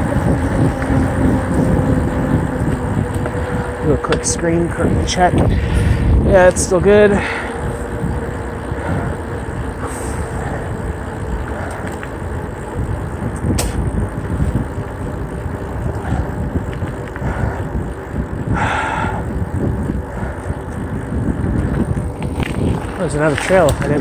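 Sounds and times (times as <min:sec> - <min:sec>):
bike tyres rumbling on pavement: 0:00.0 - 0:24.0
wind over microphone: 0:00.0 - 0:24.0.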